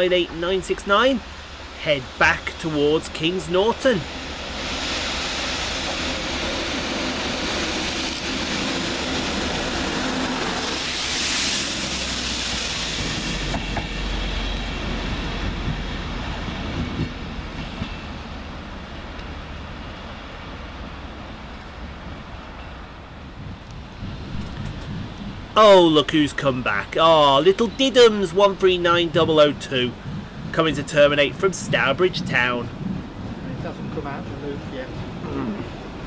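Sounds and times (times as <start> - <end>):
diesel train engine: 0.0 - 36.0.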